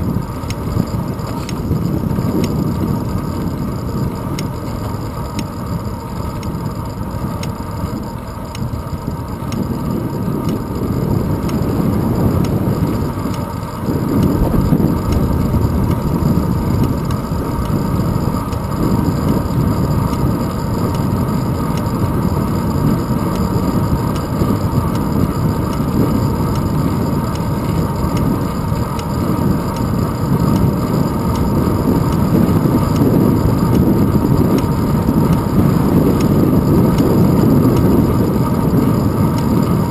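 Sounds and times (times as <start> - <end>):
bicycle road noise rumble: 0.0 - 39.9
wind buffeting microphone: 0.0 - 39.9.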